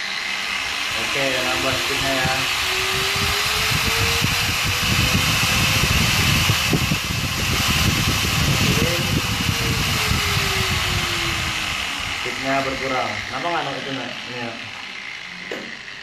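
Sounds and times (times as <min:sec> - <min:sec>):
angle grinder motor whine: 0:00.0 - 0:16.0.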